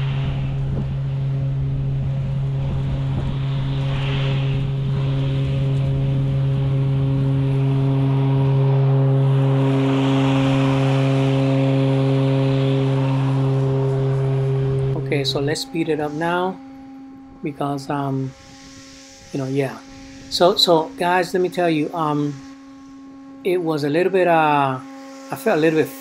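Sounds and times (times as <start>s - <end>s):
electric mower hum: 0.0s - 26.0s
hiss of grass cutting: 0.0s - 26.0s.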